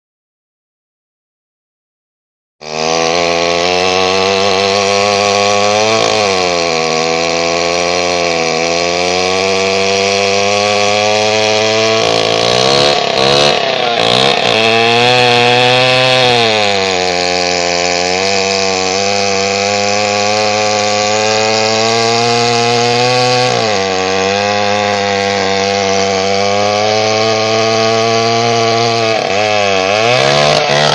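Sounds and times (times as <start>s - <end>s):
chainsaw cutting through wood: 2.6s - 30.9s.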